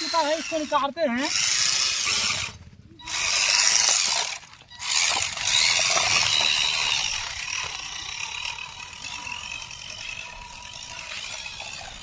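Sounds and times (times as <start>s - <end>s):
toy motor and gearbox whirring: 0.0s - 12.0s.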